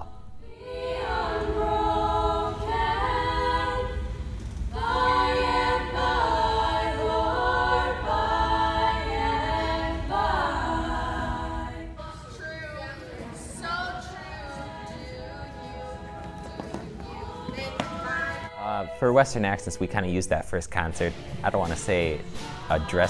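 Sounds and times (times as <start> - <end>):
choir singing a cappella: 0.0 - 23.0.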